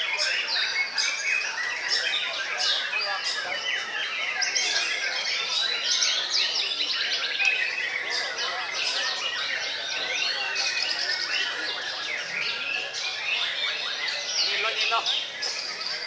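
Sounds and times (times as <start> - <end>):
birds singing chorus: 0.0 - 16.0.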